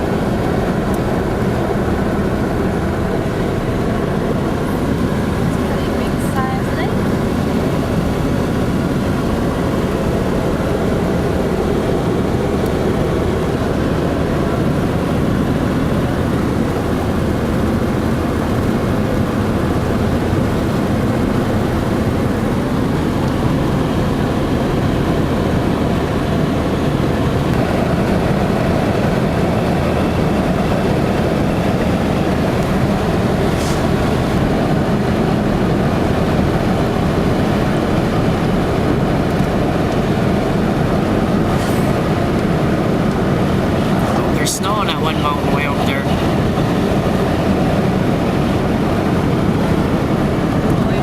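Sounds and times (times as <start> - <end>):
vehicle rumble: 0.0 - 51.0.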